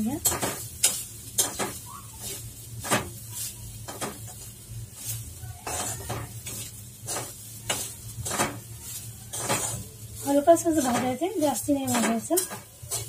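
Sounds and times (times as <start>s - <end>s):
metal spoon scraping a pan: 0.1s - 13.0s.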